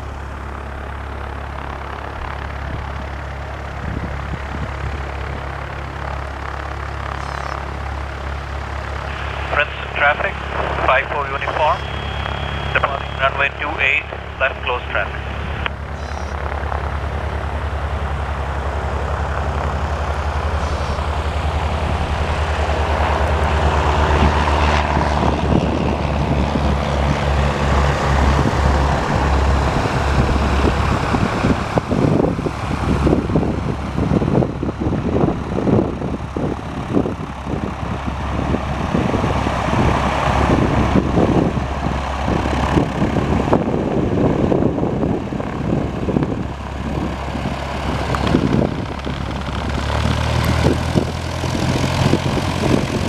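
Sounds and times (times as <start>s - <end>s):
propeller plane engine drone: 0.0s - 53.0s
wind buffeting microphone: 0.0s - 53.0s.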